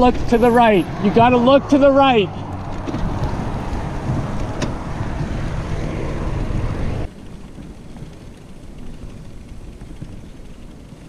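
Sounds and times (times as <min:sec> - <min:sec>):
bicycle rolling low rumble: 0:00.0 - 0:11.0
wind noise on microphone: 0:00.0 - 0:11.0.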